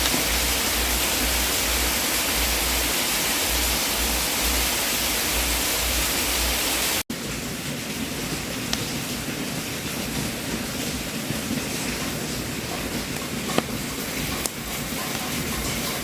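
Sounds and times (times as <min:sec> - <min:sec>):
wood fire hissing: 0:00.0 - 0:07.0, 0:08.0 - 0:16.0
fire crackles: 0:00.0 - 0:16.0.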